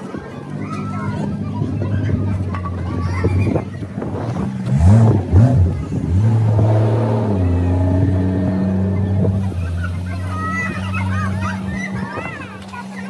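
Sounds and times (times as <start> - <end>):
motorboat engine revving: 0.8 - 13.0.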